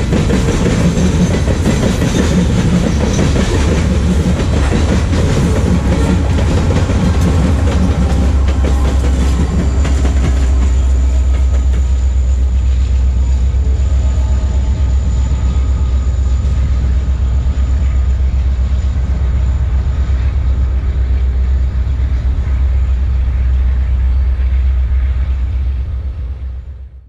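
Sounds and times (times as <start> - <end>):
diesel locomotives rumbling: 0.0 - 27.0.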